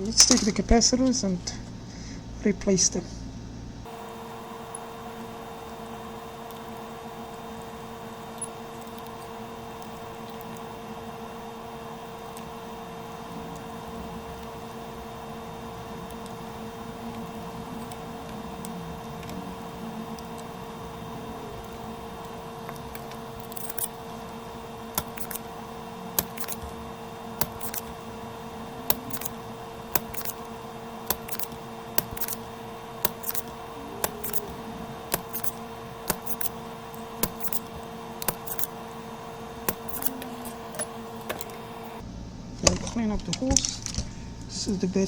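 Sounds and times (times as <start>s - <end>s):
steady electrical hum: 0.0s - 45.0s.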